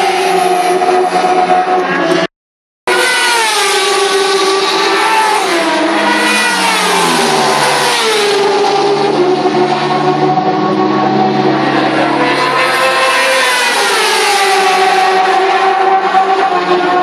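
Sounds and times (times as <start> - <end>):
racing motorcycles passing: 2.9 - 17.0.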